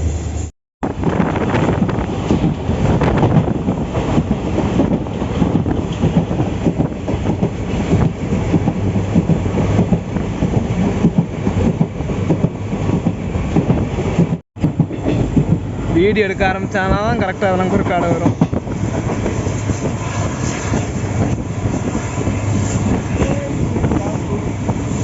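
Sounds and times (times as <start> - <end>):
train rumbling on track: 0.0 - 25.0
rattle of train wheels: 1.0 - 25.0.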